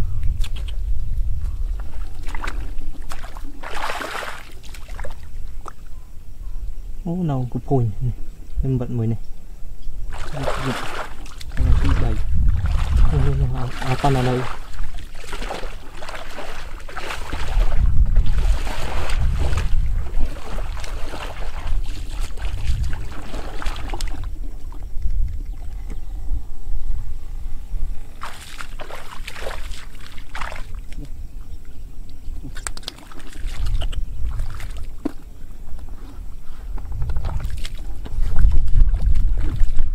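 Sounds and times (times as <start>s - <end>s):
muddy water splashing: 0.0s - 6.1s, 10.0s - 26.1s, 27.9s - 39.9s
wind buffeting microphone: 0.0s - 39.9s.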